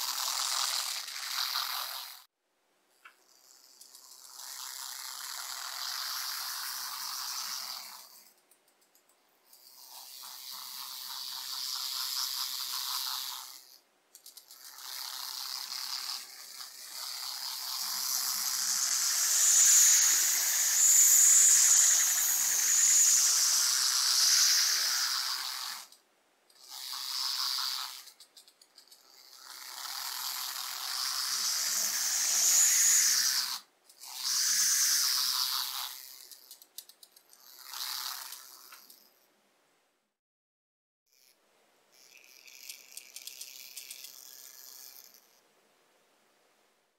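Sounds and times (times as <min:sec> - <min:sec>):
small motor whining: 0:00.0 - 0:02.3, 0:03.3 - 0:08.3, 0:09.5 - 0:26.0, 0:26.6 - 0:28.2, 0:28.8 - 0:39.1, 0:41.1 - 0:45.4.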